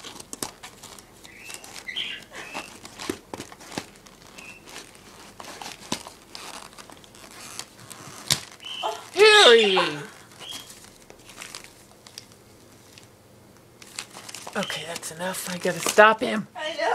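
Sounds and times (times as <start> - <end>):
wrapping paper crinkling: 0.0 - 13.1, 13.8 - 16.2.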